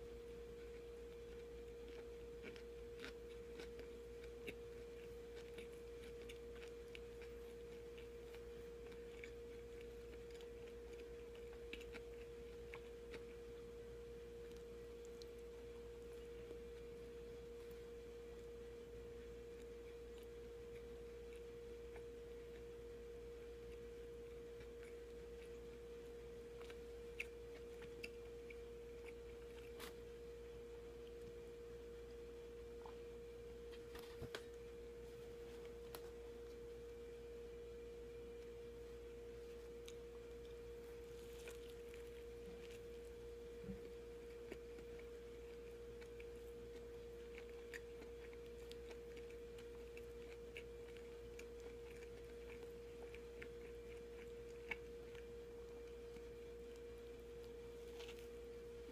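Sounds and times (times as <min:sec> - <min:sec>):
faint steady hum: 0:00.0 - 0:58.9
chewing clicks: 0:00.5 - 0:30.2, 0:39.4 - 0:58.9.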